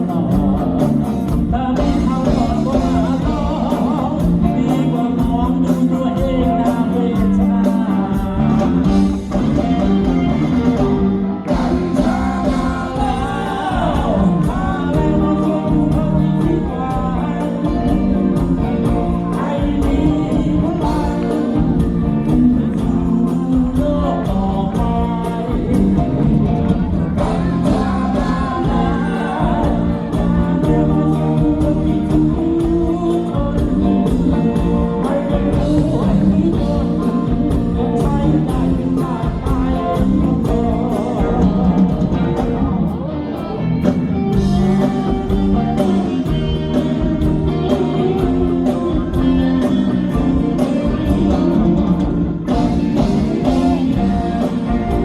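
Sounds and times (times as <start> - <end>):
steady drum beat: 0.0 - 42.8, 43.9 - 55.0
person singing: 0.0 - 55.0
rock band playing live: 0.0 - 55.0.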